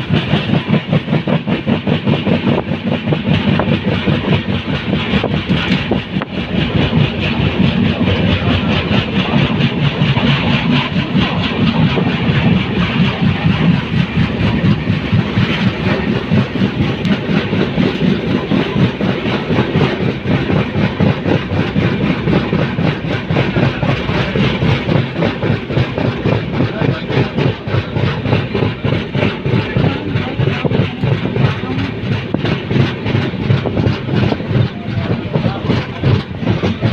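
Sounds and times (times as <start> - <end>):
passenger train running: 0.0 - 36.9.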